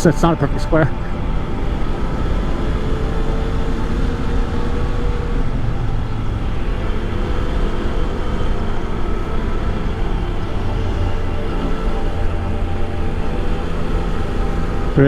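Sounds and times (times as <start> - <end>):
motorcycle engine hum: 0.0 - 15.0
wind rush on microphone: 0.0 - 15.0.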